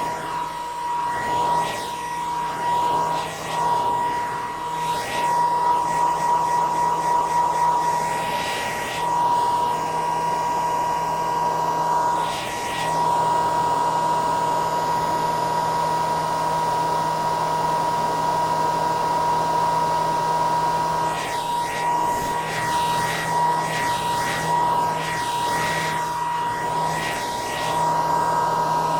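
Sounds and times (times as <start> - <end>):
hair dryer whine: 0.0 - 28.9.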